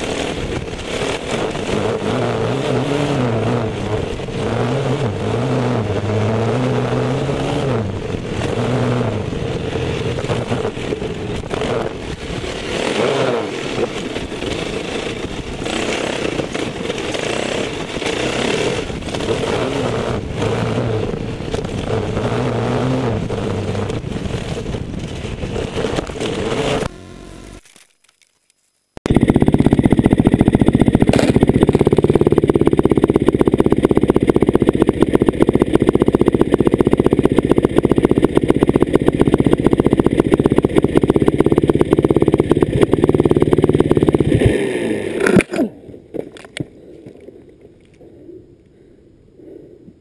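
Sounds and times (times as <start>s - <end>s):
dirt bike engine running: 0.0s - 27.9s, 28.7s - 45.5s.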